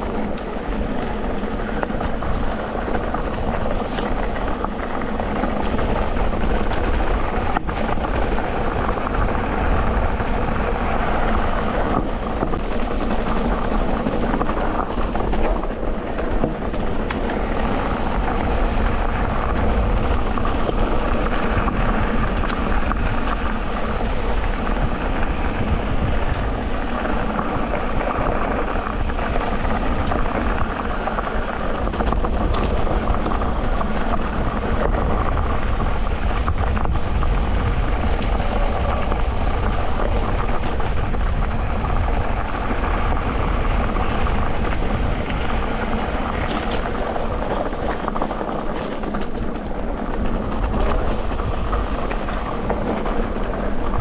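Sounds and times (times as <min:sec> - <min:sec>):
bike tyres rumbling on dirt: 0:00.0 - 0:54.0.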